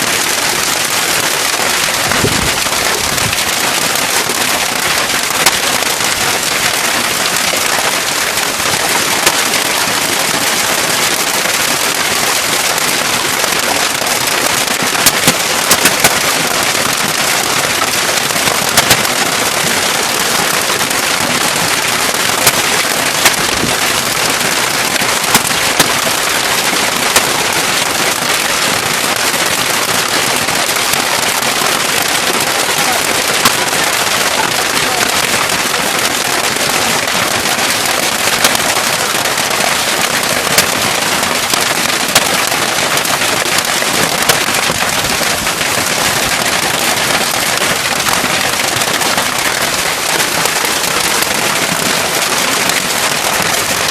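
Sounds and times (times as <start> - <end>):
hailstones striking hard surface: 0.0 - 53.9
heavy rain downpour: 0.0 - 53.9.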